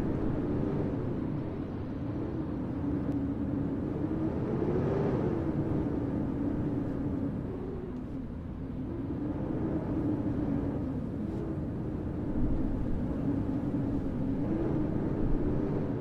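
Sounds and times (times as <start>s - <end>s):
faint wavering hum: 0.0s - 16.0s
low city rumble: 0.0s - 16.0s.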